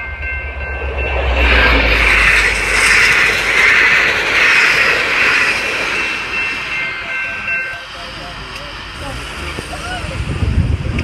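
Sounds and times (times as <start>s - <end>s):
crossing warning bell ringing: 0.0s - 10.3s
train wheels roaring on rails: 0.0s - 11.0s.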